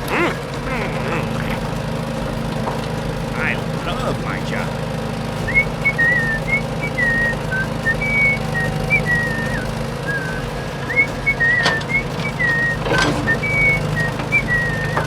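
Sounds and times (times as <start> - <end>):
steady low hum: 0.0 - 15.0
whistled tune: 0.0 - 15.0.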